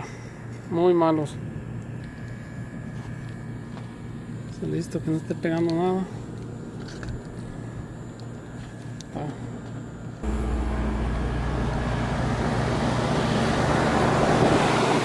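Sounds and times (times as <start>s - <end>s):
compressor hum: 0.0s - 15.0s
condenser fan air rush: 0.0s - 15.0s.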